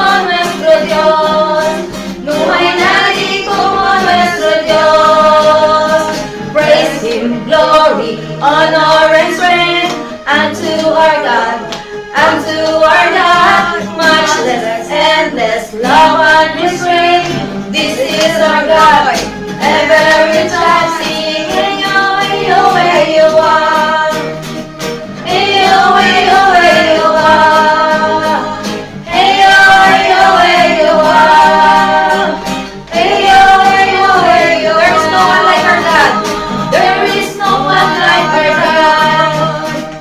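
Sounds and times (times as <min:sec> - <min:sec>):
acoustic guitar: 0:00.0 - 0:40.0
group singing worship song: 0:00.0 - 0:40.0
woman singing lead: 0:00.0 - 0:40.0.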